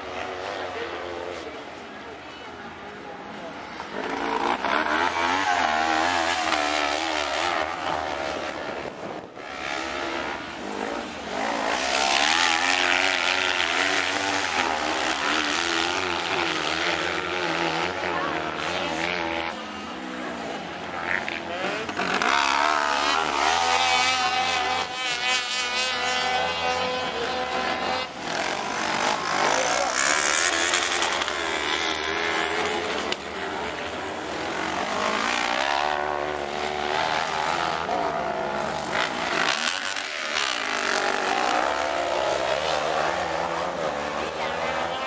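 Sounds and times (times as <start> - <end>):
racing buggy engines revving: 0.0 - 45.0.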